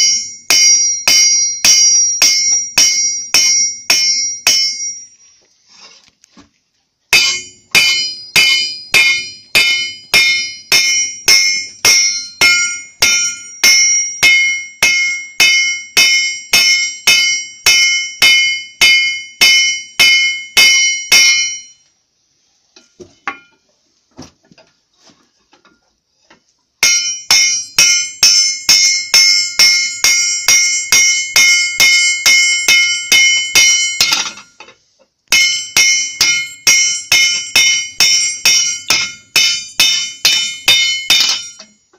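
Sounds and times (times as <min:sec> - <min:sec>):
hammer striking metal on anvil: 0:00.0 - 0:05.2, 0:07.1 - 0:21.9, 0:26.8 - 0:41.8.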